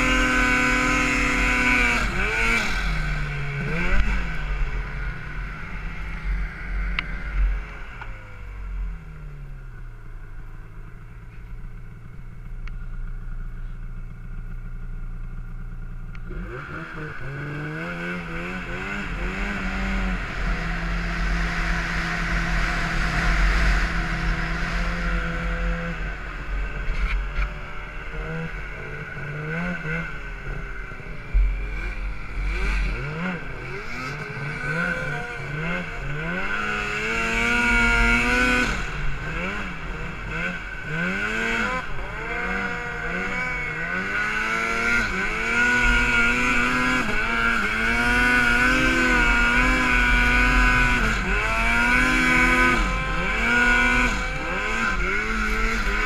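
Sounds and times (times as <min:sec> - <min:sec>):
snowmobile engine revving: 0:00.0 - 0:09.5, 0:16.0 - 0:56.0.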